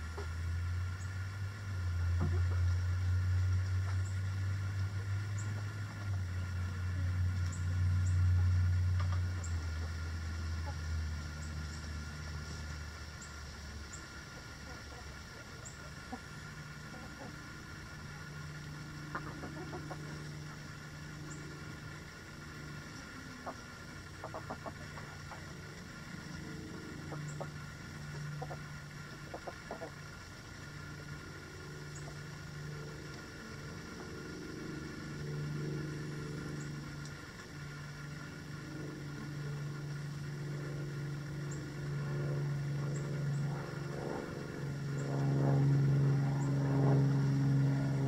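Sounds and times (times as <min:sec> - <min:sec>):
vehicle engine hum: 0:00.0 - 0:48.0.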